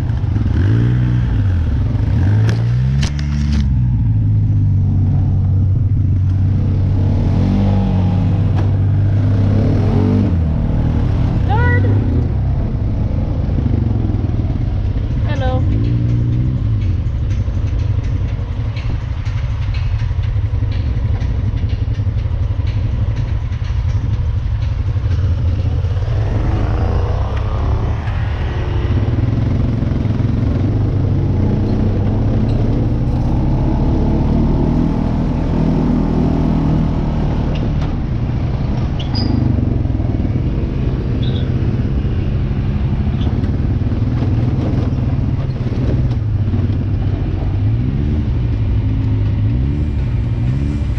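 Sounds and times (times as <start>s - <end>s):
off-road vehicle engine rumbling: 0.0s - 50.9s.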